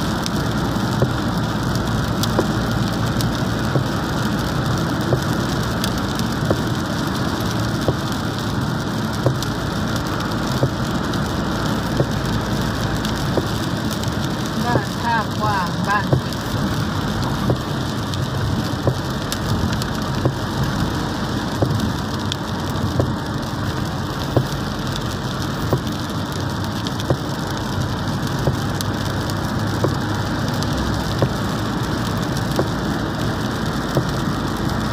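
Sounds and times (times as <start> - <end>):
car driving on wet road: 0.0 - 34.9
heavy rain on car roof: 0.0 - 34.9.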